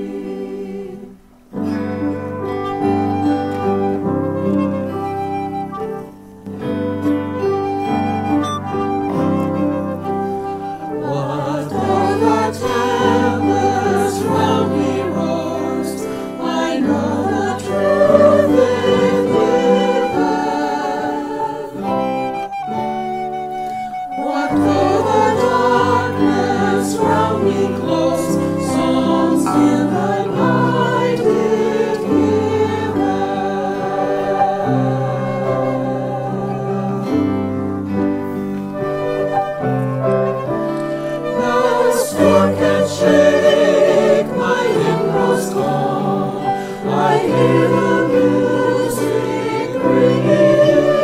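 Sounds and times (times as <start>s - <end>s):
choir singing: 0.0s - 51.0s.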